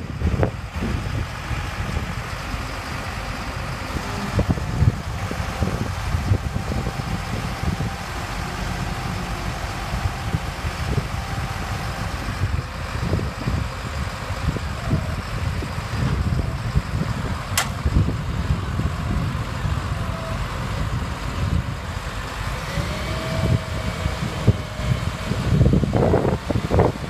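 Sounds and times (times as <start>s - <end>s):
truck engine idling: 0.0s - 27.0s.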